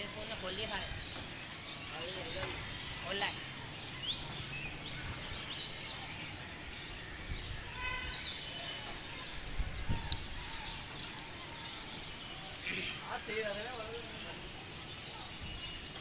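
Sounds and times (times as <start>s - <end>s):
distant voices: 0.0s - 16.0s
faint bird chirps: 0.0s - 16.0s.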